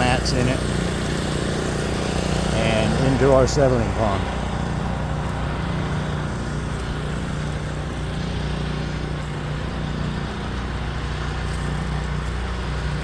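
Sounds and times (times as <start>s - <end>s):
milling machinery drone: 0.0s - 13.0s.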